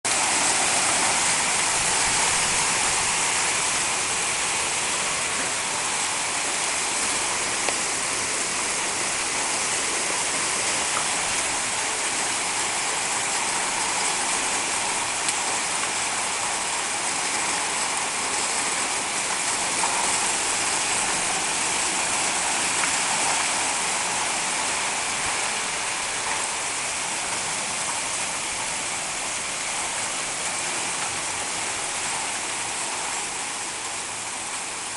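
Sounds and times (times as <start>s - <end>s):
torrential rain pouring: 0.0s - 34.9s
wind in trees: 0.0s - 34.9s.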